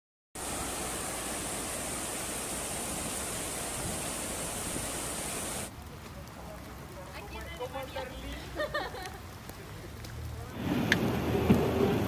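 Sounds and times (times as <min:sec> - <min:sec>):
hail and rain falling: 0:00.4 - 0:12.0.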